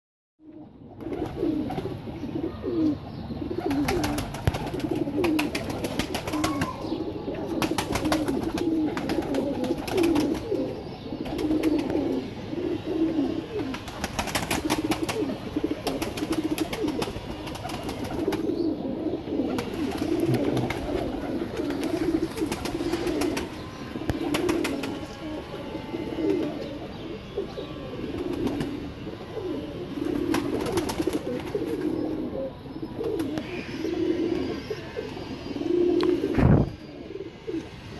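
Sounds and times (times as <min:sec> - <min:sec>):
pigeons cooing: 0:00.4 - 0:37.9.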